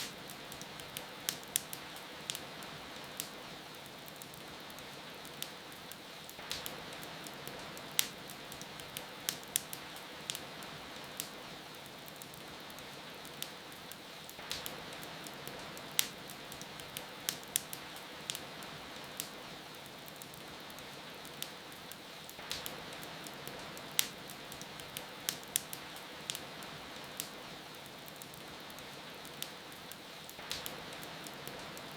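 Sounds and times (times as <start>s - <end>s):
rain hiss: 0.0s - 31.9s
wood fire crackling and popping: 0.0s - 31.9s.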